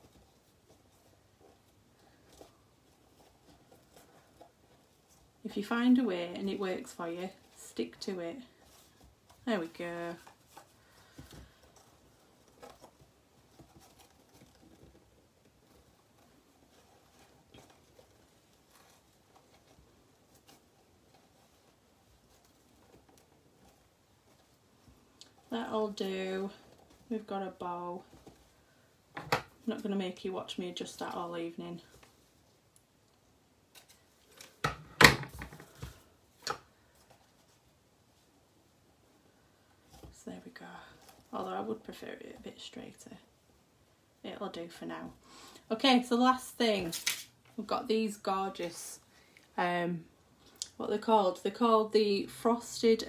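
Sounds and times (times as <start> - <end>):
ribbon rustling: 0.0 - 50.6.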